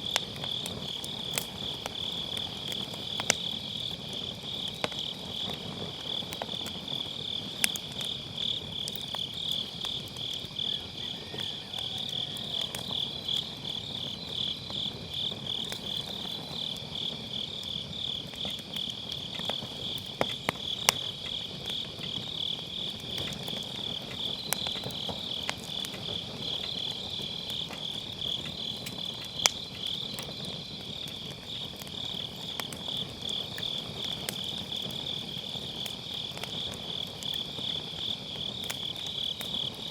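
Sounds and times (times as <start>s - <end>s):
insects trilling chorus: 0.0s - 39.9s
wood fire crackling: 0.0s - 39.9s.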